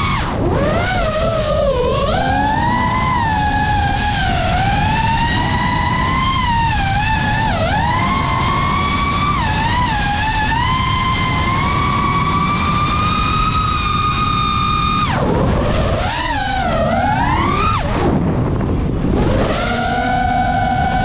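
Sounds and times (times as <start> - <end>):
drone motors whining: 0.0 - 21.0
rushing air: 0.0 - 21.0.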